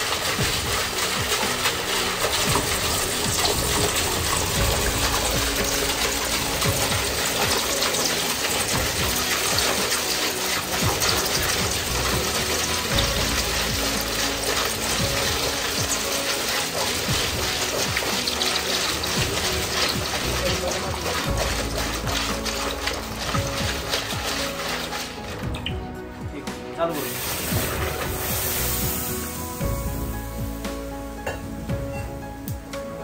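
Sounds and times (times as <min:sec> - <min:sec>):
water churning in a steel bucket: 0:00.0 - 0:32.5
background music: 0:00.0 - 0:33.0.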